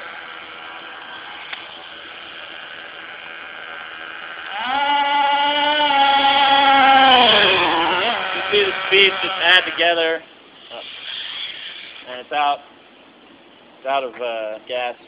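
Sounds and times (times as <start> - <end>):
small engine buzzing: 0.0 - 12.9.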